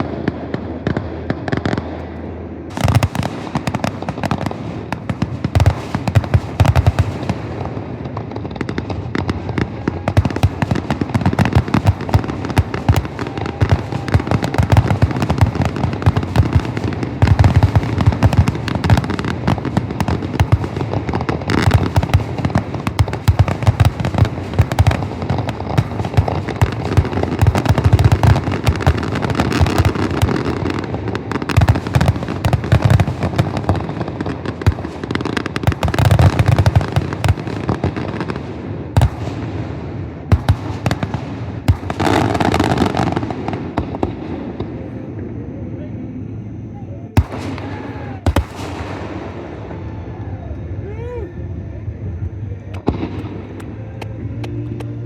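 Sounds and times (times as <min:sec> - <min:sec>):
fireworks bursting and crackling: 0:00.0 - 0:45.4, 0:47.1 - 0:55.0.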